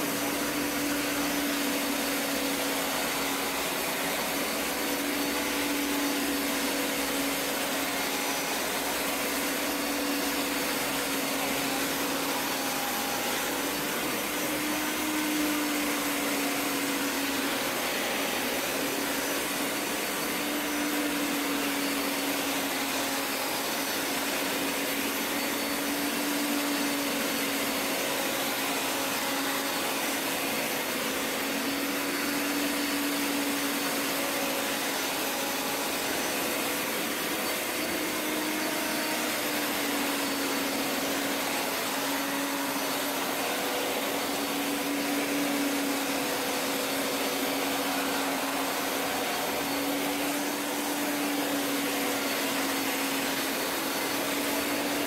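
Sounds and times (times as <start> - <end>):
carpet cleaner motor whirring: 0.0 - 55.0.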